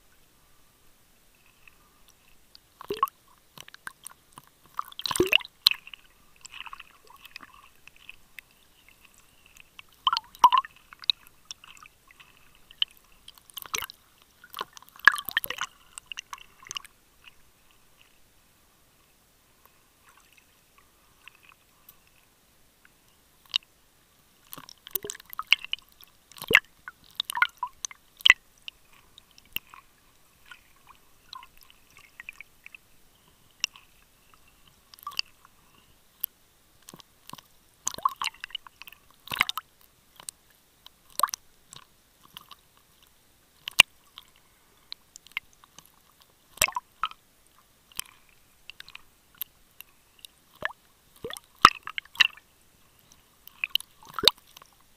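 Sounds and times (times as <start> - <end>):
underwater clicks and crackles: 1.3 - 18.3, 19.0 - 54.9.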